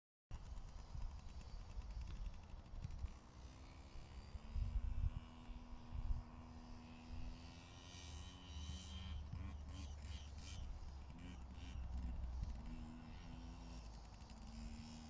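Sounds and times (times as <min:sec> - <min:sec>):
faint engine drone: 0:00.3 - 0:15.0.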